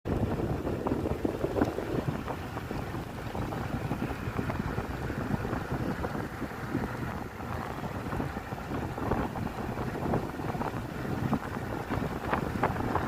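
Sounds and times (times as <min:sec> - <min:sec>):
low motorbike noise: 0:00.1 - 0:13.0
wind buffeting microphone: 0:00.1 - 0:13.0.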